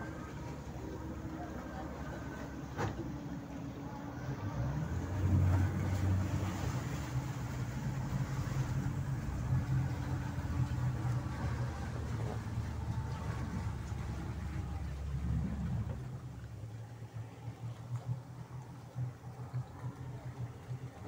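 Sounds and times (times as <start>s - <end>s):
speedboat engine humming: 0.0s - 21.0s.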